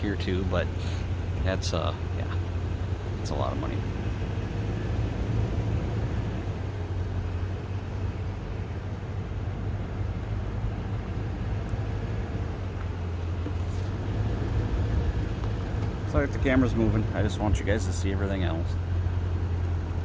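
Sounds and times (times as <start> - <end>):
car cabin hum: 0.0 - 20.0.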